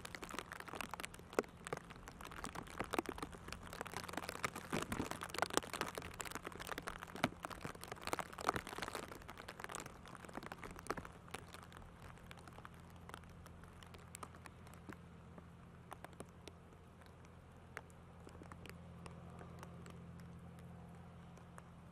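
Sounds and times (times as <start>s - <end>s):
raindrops pattering: 0.0s - 21.9s
wind: 0.0s - 21.9s.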